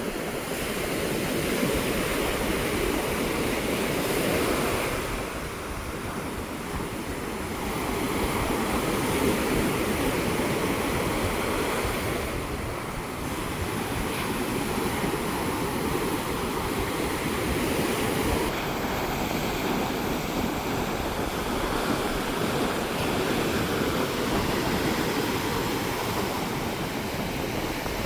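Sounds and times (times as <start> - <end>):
wind rumbling on microphone: 0.0 - 28.0
surf breaking on shore: 0.2 - 28.0.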